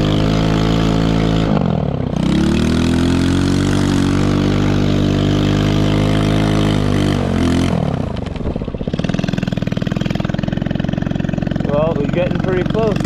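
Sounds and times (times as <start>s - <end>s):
small engine revving and idling: 0.0s - 13.0s.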